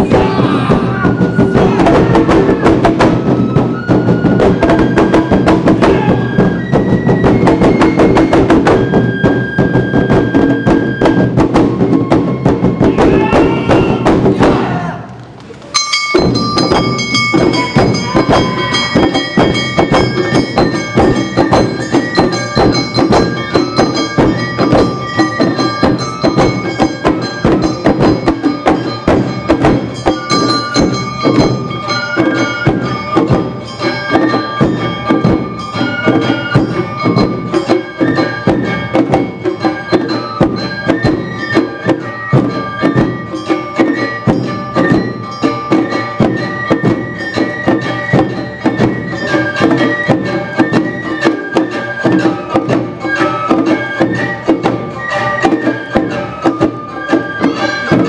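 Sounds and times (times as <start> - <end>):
flute melody: 0.0 - 15.0, 15.8 - 58.0
drums and percussion beat: 0.0 - 58.0.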